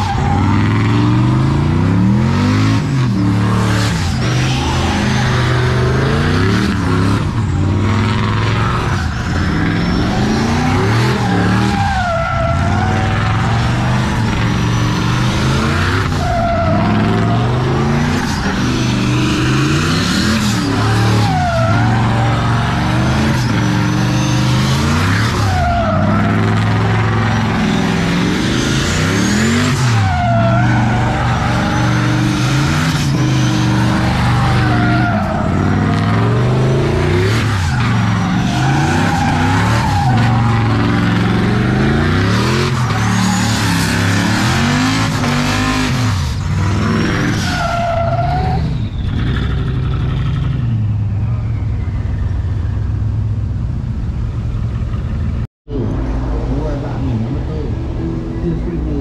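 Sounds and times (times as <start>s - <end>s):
tyres squealing on asphalt: 0.0s - 53.4s
truck engine at high revs: 0.0s - 59.0s.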